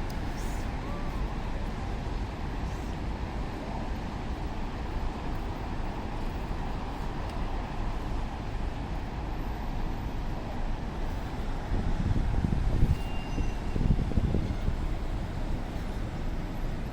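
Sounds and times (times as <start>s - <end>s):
traffic rumble: 0.0s - 16.9s.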